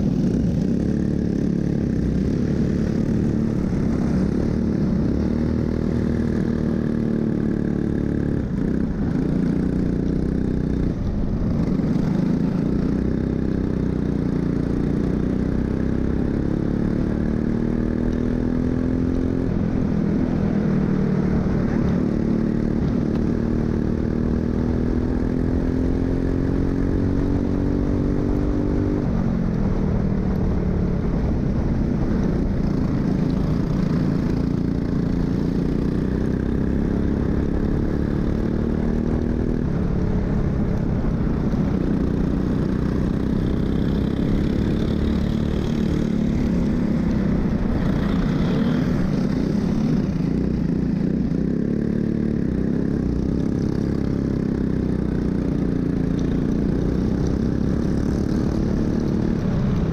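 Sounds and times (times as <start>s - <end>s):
racing kart engine at full throttle: 0.0s - 59.9s.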